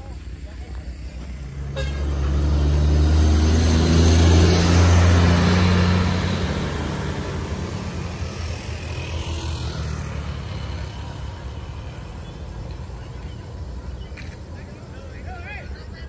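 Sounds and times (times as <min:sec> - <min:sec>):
bus passing by: 0:00.0 - 0:16.0.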